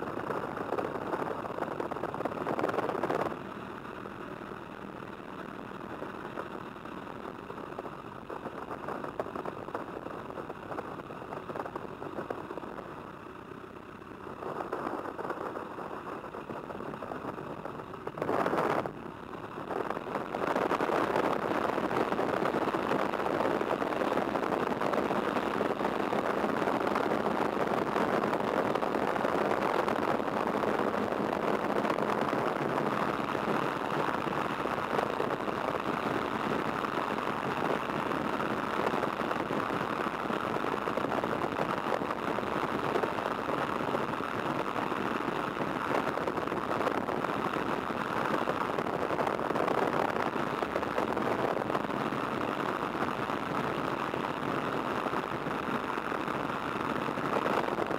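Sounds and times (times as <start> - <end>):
propeller and wind noise: 0.0 - 57.9.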